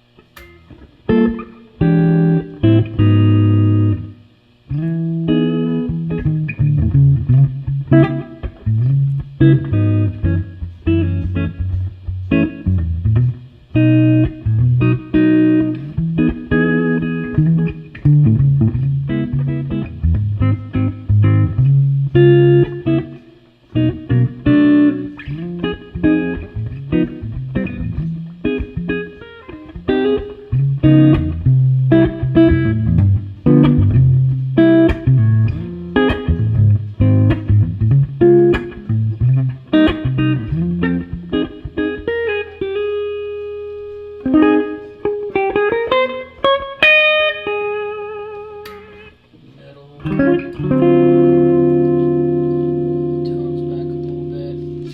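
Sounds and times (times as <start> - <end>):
clean electric guitar notes: 0.0 - 49.3, 50.0 - 54.9.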